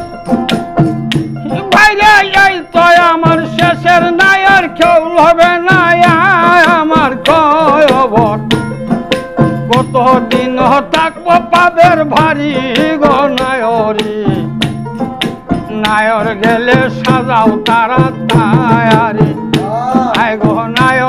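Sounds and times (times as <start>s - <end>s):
plucked string instruments: 0.0s - 21.0s
rattling hand percussion: 0.0s - 21.0s.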